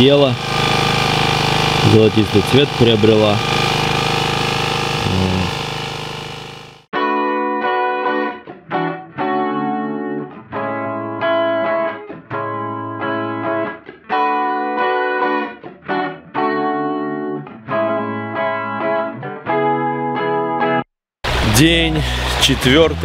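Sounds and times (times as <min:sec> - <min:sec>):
guitar playing held chords: 0:00.0 - 0:23.0.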